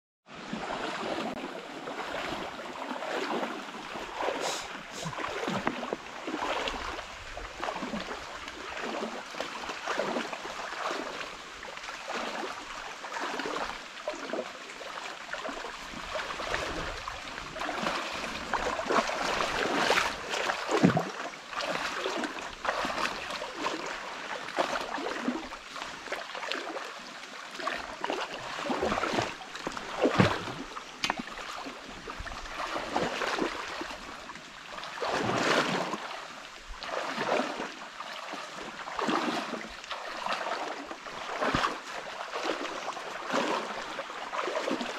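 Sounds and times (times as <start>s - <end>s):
legs splashing through water: 0.5s - 44.9s.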